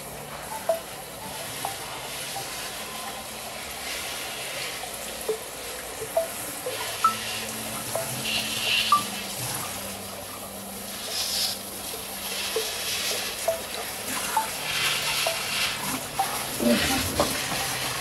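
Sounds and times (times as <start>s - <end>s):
faucet running into sink: 0.0s - 18.0s.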